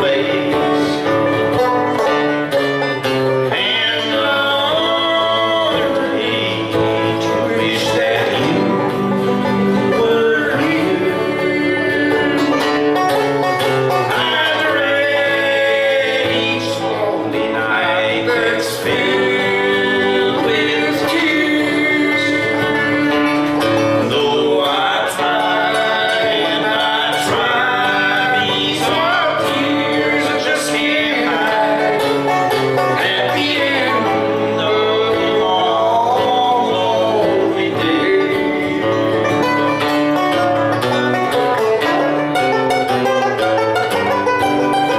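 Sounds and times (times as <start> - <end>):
acoustic guitar strumming: 0.0 - 44.9
banjo picking: 0.0 - 44.9.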